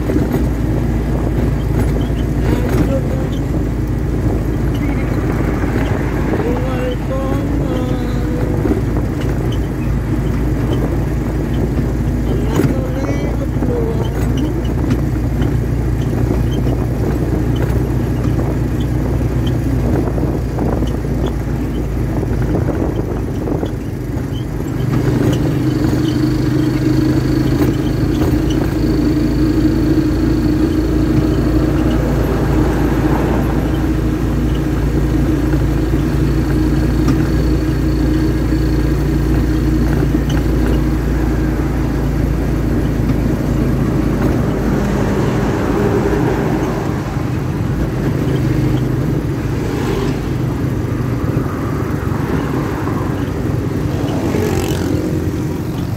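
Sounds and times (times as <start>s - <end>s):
vehicle engine and road rumble: 0.0s - 55.9s.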